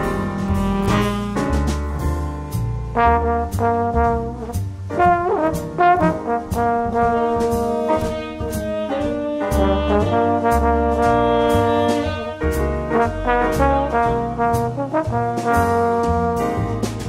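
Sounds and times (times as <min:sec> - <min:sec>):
bass line: 0:00.0 - 0:17.0
brass-like melody: 0:00.0 - 0:17.0
steady drum beat: 0:00.0 - 0:17.0.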